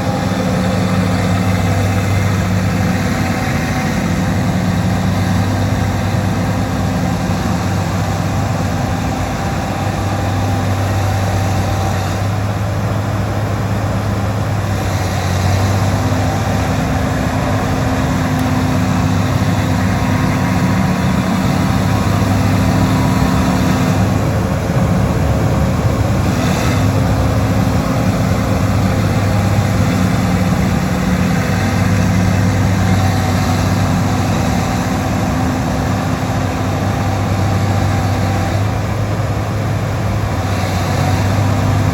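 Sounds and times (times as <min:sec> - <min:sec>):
diesel engine humming: 0:00.0 - 0:41.9.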